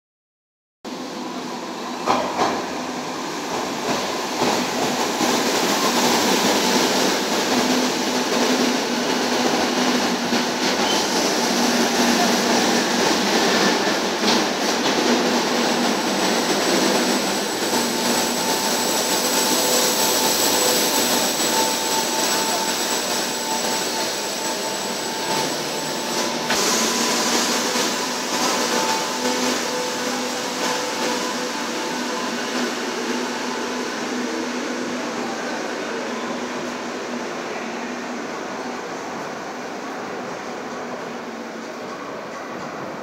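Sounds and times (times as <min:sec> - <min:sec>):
train rumbling hiss: 0:00.9 - 0:43.0.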